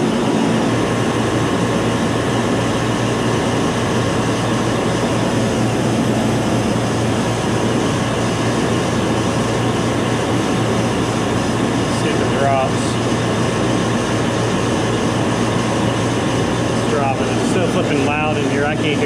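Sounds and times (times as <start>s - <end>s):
compressors running: 0.0s - 19.0s
condenser fans running: 0.0s - 19.0s
constant low hum: 0.0s - 19.0s.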